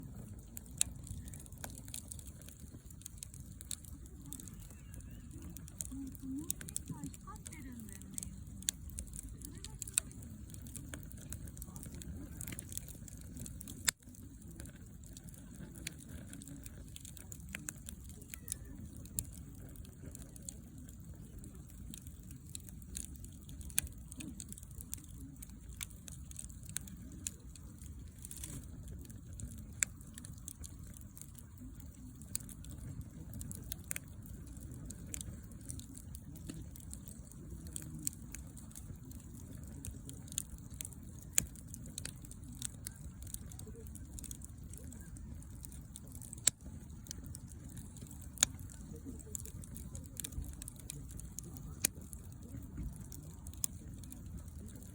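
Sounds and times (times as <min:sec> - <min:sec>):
campfire crackling: 0:00.0 - 0:54.9
firewood popping: 0:00.0 - 0:54.9
low fire rumble: 0:00.0 - 0:54.9.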